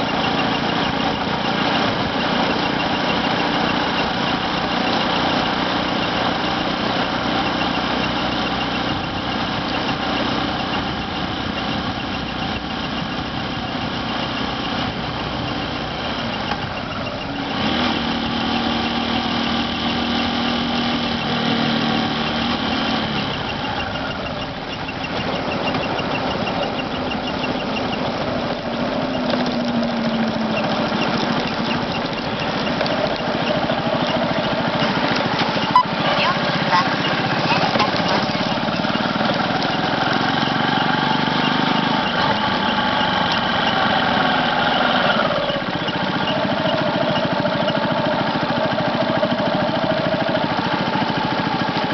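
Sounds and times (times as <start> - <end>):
motorcycle engine idling: 0.0 - 51.9
squeaky noise from motorcycle: 0.0 - 51.9.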